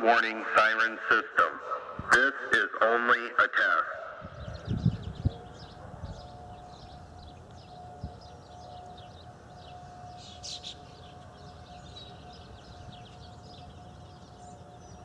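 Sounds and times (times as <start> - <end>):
faint warning siren: 0.0 - 15.0
birds chirping: 0.1 - 15.0.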